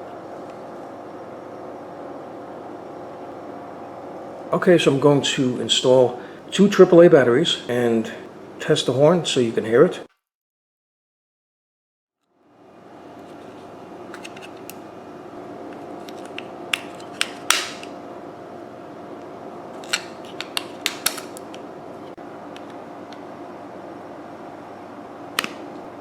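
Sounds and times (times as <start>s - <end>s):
steady background hum: 0.0s - 10.1s, 12.2s - 26.0s.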